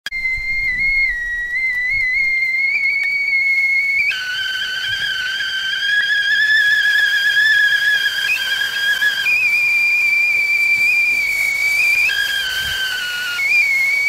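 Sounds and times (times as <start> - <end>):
tea kettle whistling: 0.0 - 14.0.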